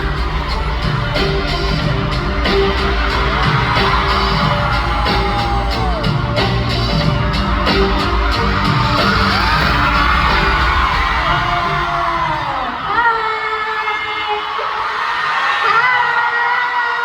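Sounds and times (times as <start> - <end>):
loud music with a steady beat: 0.0 - 13.9
fans screaming and yelling: 0.0 - 17.0.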